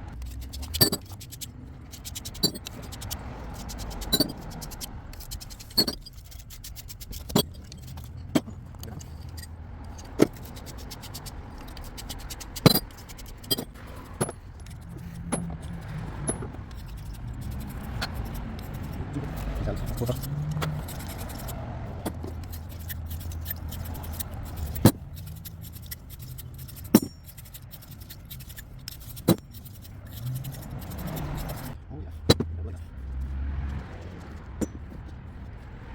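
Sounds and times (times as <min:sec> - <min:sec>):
metal pipe and tools clinking: 0:00.2 - 0:03.0, 0:03.6 - 0:31.7.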